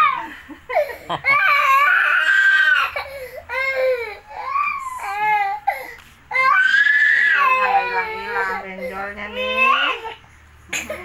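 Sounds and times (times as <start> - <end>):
infant crying: 0.0 - 10.2.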